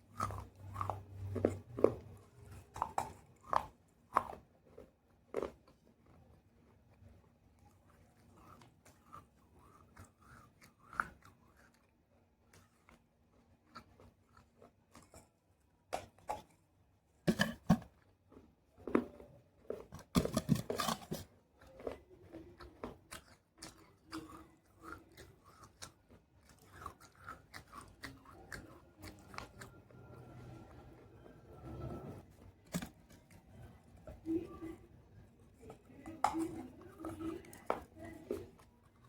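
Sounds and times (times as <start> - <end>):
chewing crunchy clay pieces: 0.0 - 39.0.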